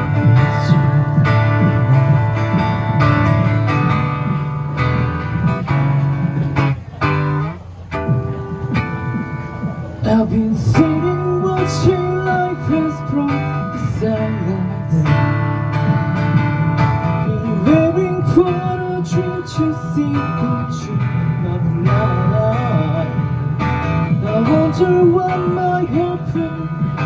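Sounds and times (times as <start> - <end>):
bass: 0.0 - 27.0
strummed acoustic guitar: 0.0 - 27.0.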